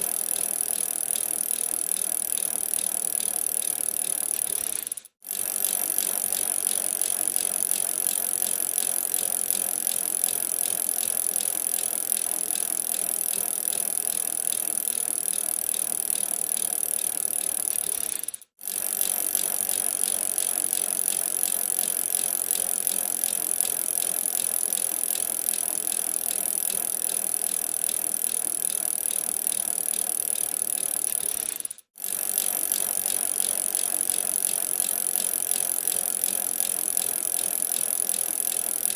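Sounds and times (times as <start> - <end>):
bicycle freewheel ticking: 0.0 - 38.9.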